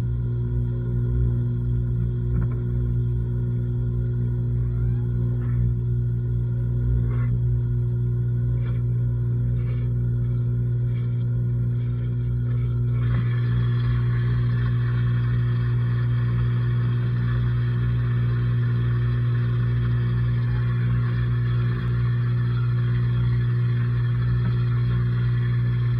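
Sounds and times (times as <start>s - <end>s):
washing machine motor hum: 0.0s - 25.9s.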